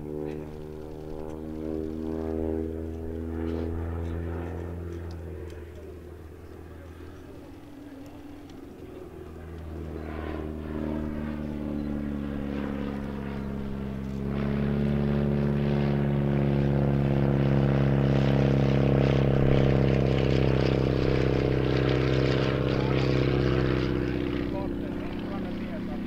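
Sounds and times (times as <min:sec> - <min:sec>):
propeller plane engine in flight: 0:00.0 - 0:26.0.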